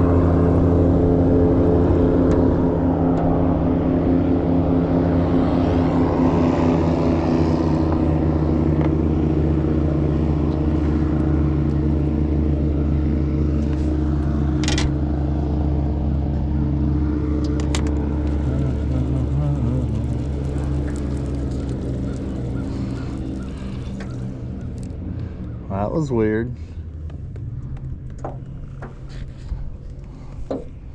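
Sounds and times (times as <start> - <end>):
motorboat engine running: 0.0 - 30.9.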